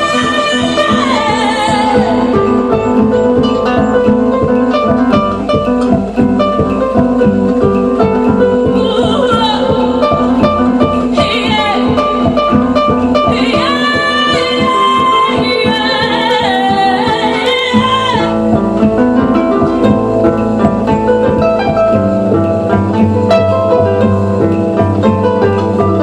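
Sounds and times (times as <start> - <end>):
electric harp repeating plucked figure: 0.0 - 26.0
sustained bass notes: 0.0 - 26.0.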